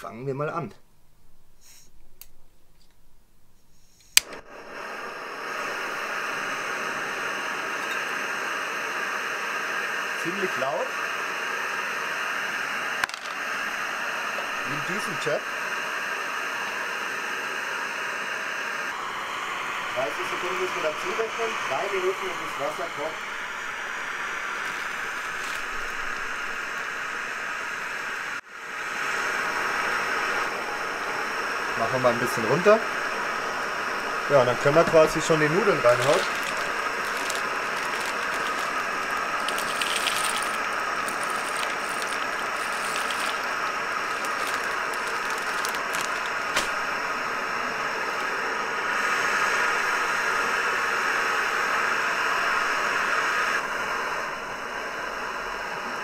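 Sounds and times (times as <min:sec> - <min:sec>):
gas flame rushing: 0:04.0 - 0:50.4.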